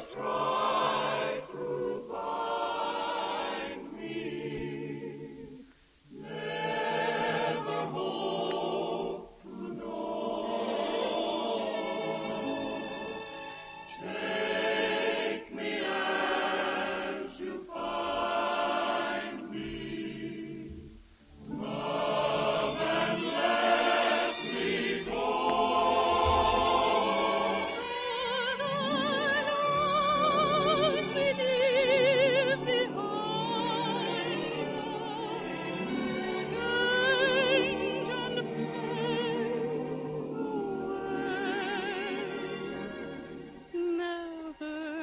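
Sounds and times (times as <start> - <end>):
choir and operatic voices singing: 0.0 - 45.0.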